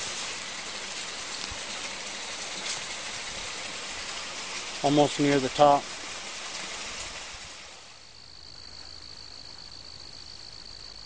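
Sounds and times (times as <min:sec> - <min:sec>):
crickets trilling: 0:00.0 - 0:07.3, 0:07.9 - 0:11.0
broad hiss: 0:00.0 - 0:11.0.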